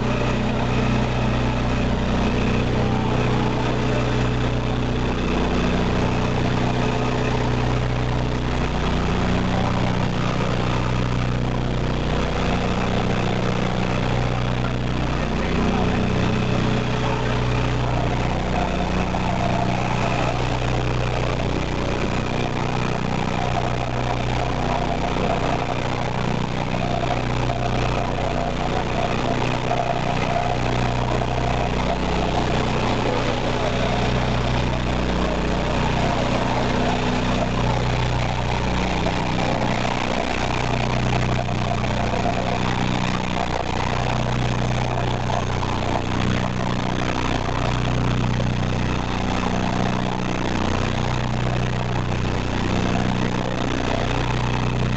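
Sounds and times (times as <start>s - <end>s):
vibrator motor humming: 0.0s - 54.9s.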